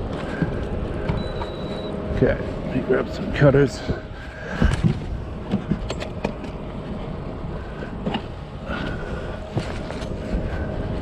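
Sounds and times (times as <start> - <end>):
knocks and clatter of gear: 0.0 - 1.9, 3.6 - 11.0.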